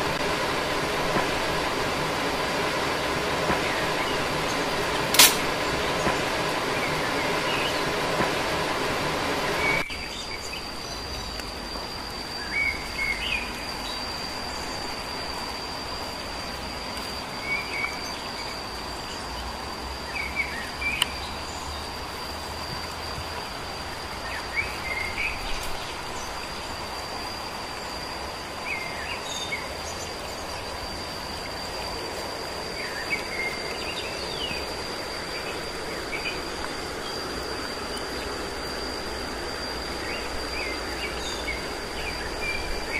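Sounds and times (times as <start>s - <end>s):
background hiss: 0.0s - 42.9s
high-pitched insect drone: 0.0s - 42.9s.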